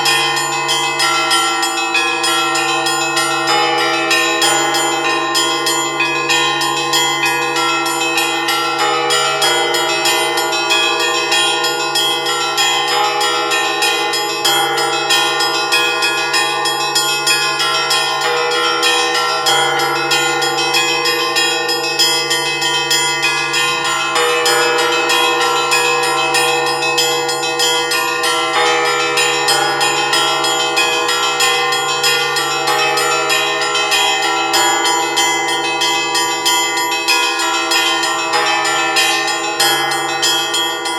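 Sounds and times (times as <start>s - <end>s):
small bells ringing rapidly: 0.0s - 40.9s.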